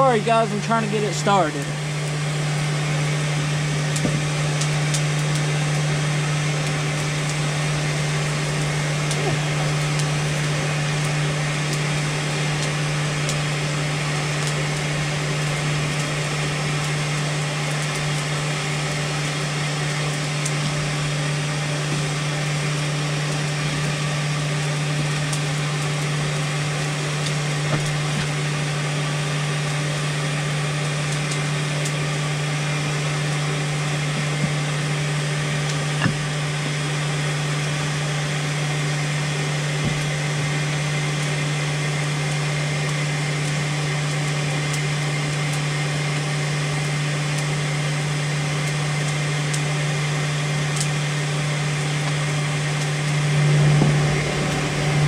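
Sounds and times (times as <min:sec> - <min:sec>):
forge hum and hiss: 0:00.0 - 0:55.0.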